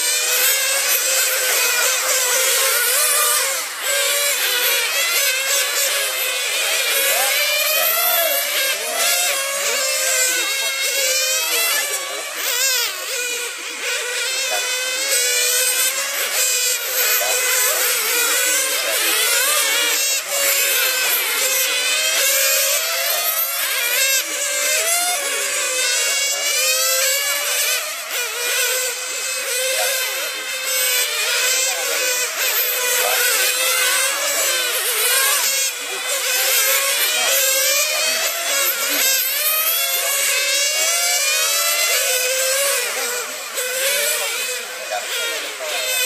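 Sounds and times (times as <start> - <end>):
rc car motors buzzing: 0.0 - 46.0.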